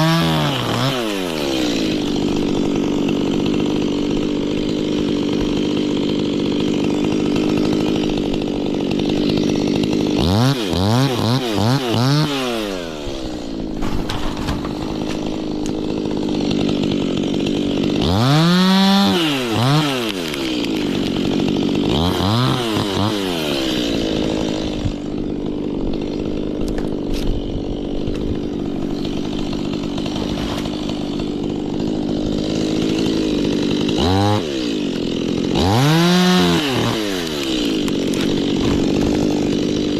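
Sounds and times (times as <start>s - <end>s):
chainsaw revving and cutting: 0.0s - 39.9s.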